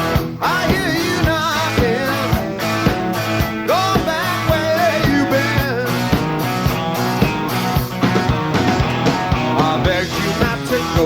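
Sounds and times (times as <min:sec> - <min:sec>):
bending guitar lead line: 0:00.0 - 0:11.0
live rock band playing: 0:00.0 - 0:11.0.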